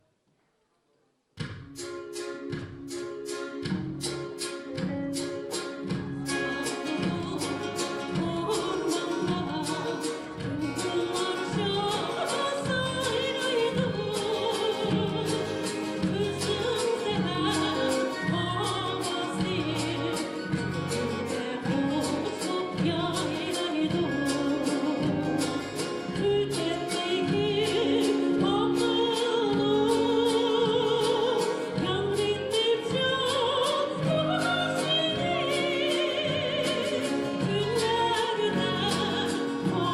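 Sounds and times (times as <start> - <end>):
instrumental accompaniment with beat: 1.4 - 39.9
person singing with vibrato: 5.5 - 39.9.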